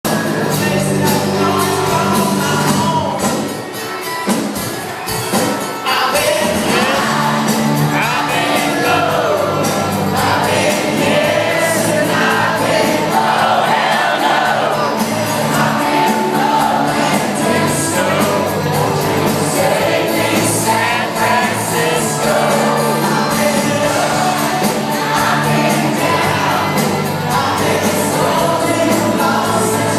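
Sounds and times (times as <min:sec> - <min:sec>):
crowd singing along: 0:00.1 - 0:29.9
live band with singing: 0:00.1 - 0:29.9.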